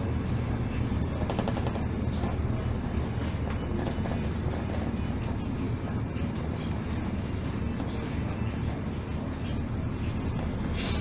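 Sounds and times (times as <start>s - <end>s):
bus diesel engine drone: 0.0s - 11.0s.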